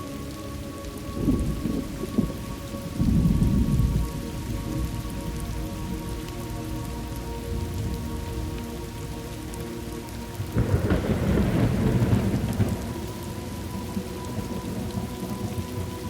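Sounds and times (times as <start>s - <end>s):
heavy rain falling: 0.0s - 16.0s
thunder rumbling: 1.0s - 9.4s, 10.3s - 16.0s.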